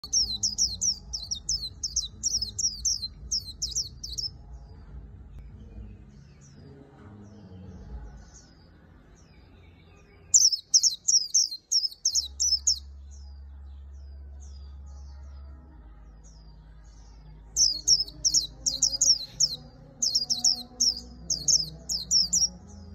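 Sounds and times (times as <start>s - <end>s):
bird singing chattering song: 0.0s - 4.8s, 5.4s - 22.9s.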